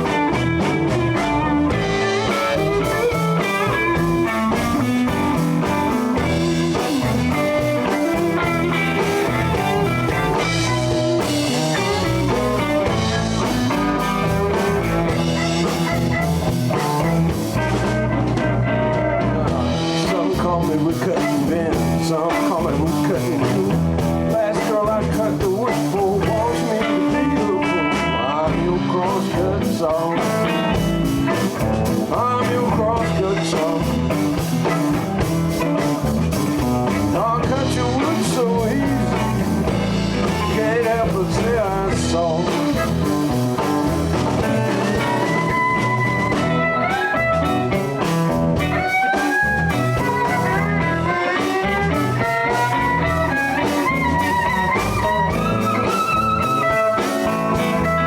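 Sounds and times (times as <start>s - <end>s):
blues band playing: 0.0s - 58.0s
lead electric guitar: 0.0s - 58.0s.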